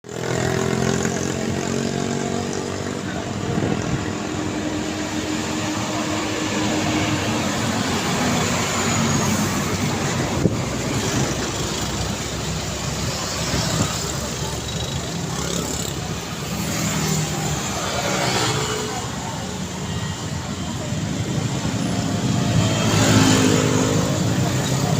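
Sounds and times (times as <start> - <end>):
heavy diesel engines: 0.0 - 24.9
traffic passing: 0.0 - 24.9.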